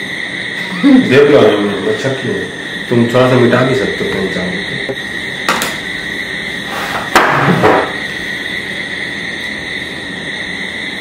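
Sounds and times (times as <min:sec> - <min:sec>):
high-pitched background hum: 0:00.0 - 0:11.0.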